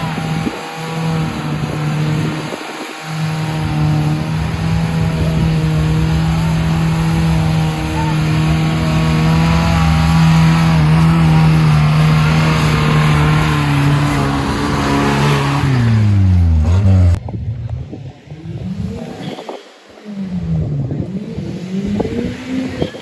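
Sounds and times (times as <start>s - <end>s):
vehicle engine running loud: 0.0s - 18.9s
faint engines revving: 0.0s - 23.0s.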